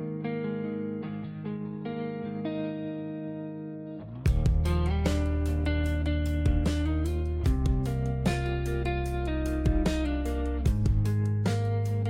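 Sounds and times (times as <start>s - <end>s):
guitar playing sustained notes: 0.0s - 12.0s.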